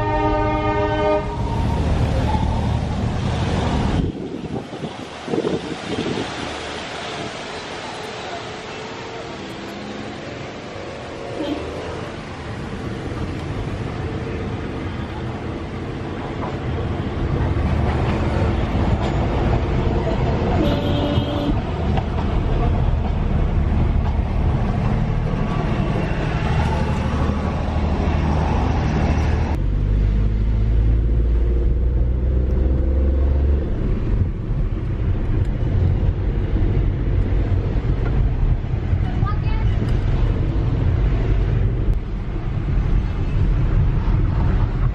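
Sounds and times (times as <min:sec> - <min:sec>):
road noise hiss: 0:00.0 - 0:44.9.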